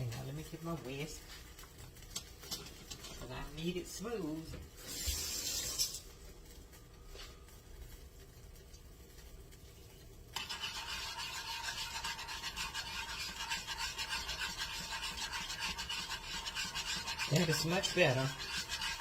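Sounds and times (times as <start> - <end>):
whisk scraping in a pan: 0.0 - 6.5, 10.3 - 19.0.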